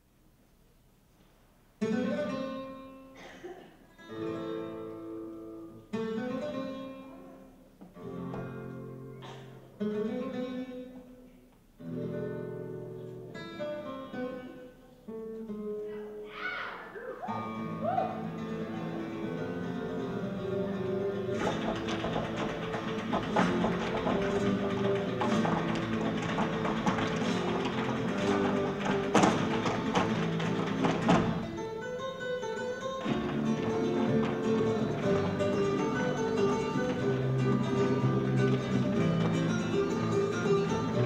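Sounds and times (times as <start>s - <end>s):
flamenco acoustic guitar chords: 1.8s - 16.2s, 17.2s - 41.0s.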